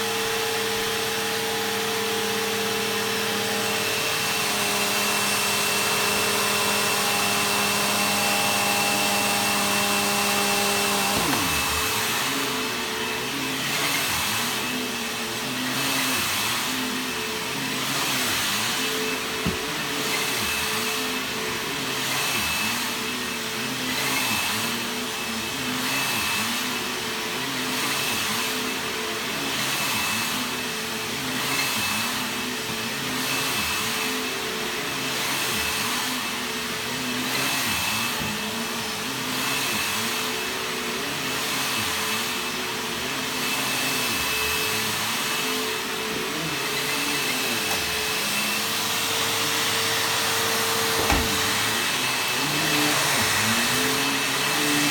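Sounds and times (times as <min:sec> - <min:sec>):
vacuum cleaner on carpet: 0:00.0 - 0:54.9.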